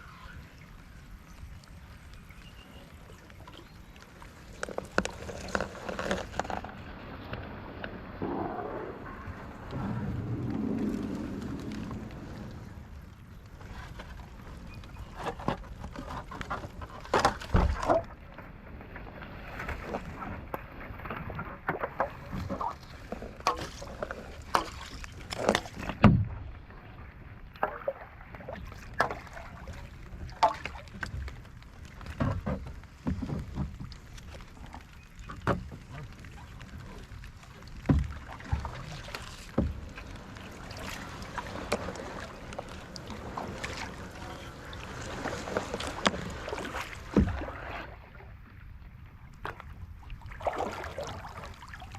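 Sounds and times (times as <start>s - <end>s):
paddle splashes: 0.0s - 51.9s.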